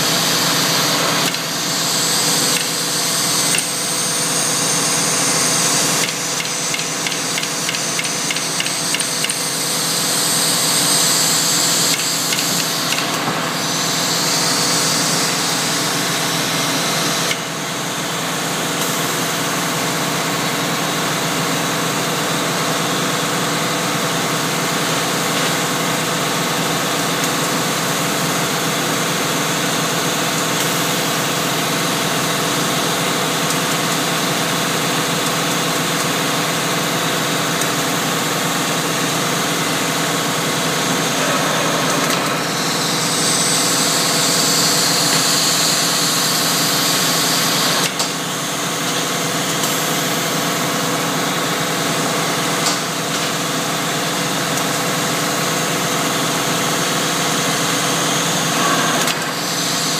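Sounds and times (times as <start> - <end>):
vacuum pump humming: 0.0 - 59.9.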